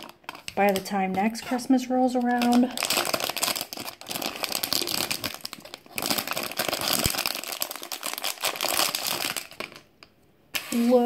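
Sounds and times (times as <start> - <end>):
foil bag crinkling: 0.0 - 9.9.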